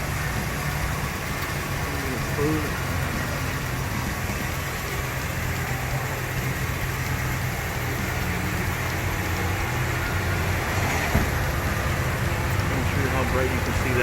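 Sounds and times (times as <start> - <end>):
pickup truck engine idling: 0.0 - 14.0.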